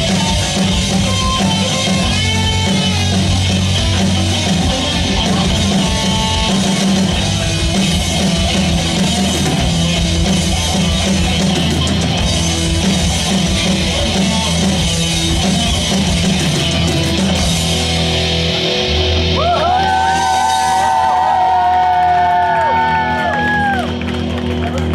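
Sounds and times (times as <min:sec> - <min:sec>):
low bass line: 0:00.0 - 0:20.1
drums: 0:00.0 - 0:24.9
electric guitar: 0:00.0 - 0:24.9.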